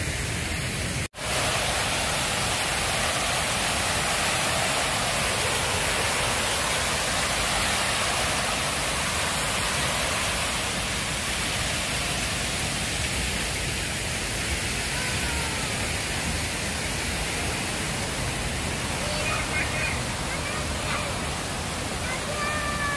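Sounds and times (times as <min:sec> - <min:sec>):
fountain water cascading: 0:00.0 - 0:22.9.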